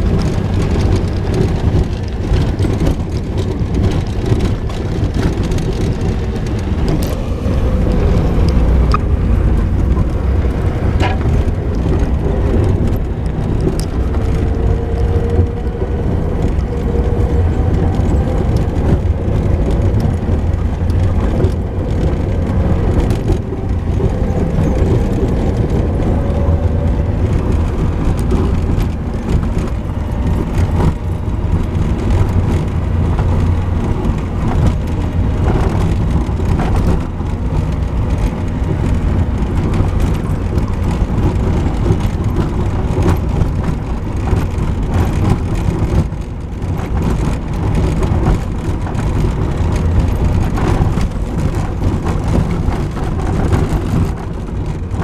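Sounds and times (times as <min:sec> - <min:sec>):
clicks and knocks over bumps: 0:00.0 - 0:55.0
engine and tyre rumble: 0:00.0 - 0:55.0.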